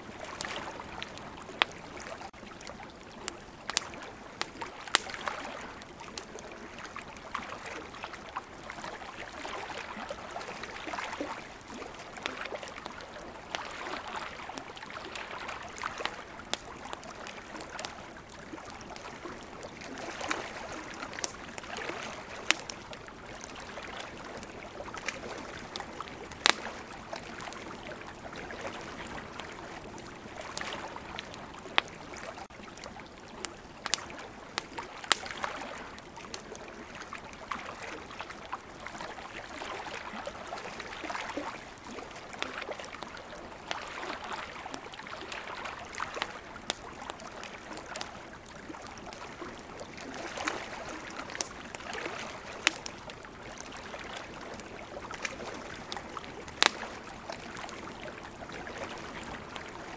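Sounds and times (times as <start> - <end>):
ocean waves: 0.0 - 2.3, 3.5 - 32.4, 34.9 - 59.9
campfire wood crackling: 0.0 - 59.9.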